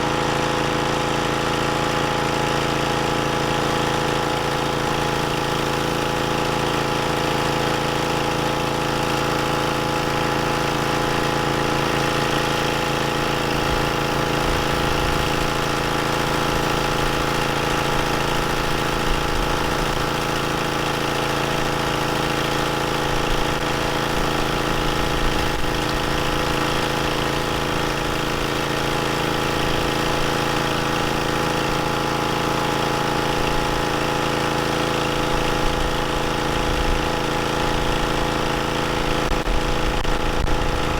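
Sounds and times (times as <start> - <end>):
pressure washer drone: 0.0 - 40.9.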